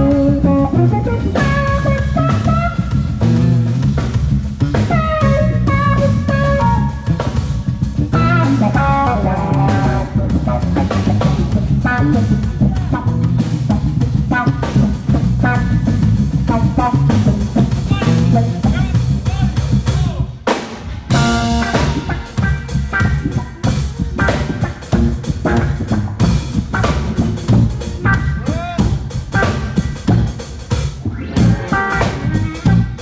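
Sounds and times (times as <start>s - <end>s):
electric guitar: 0.0s - 19.8s, 20.8s - 33.0s
drum kit groove: 0.0s - 33.0s.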